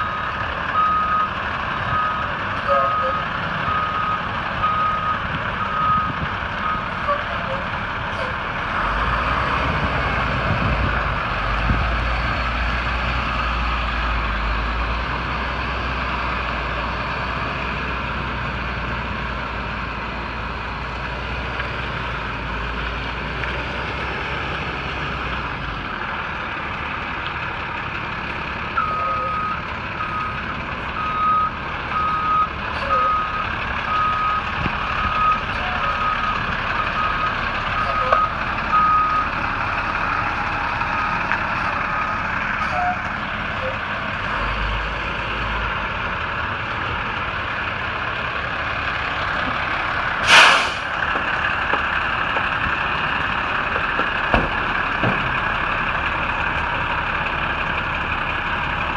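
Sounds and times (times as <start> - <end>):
truck diesel engine rumbling: 0.0 - 58.9.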